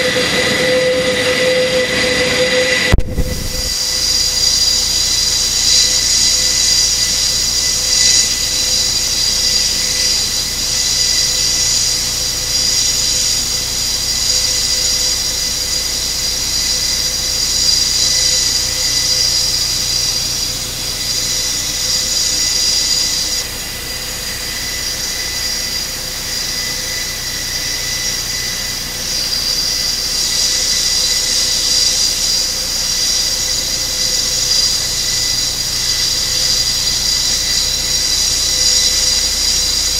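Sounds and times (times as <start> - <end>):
turboprop engines whining: 0.0 - 39.9.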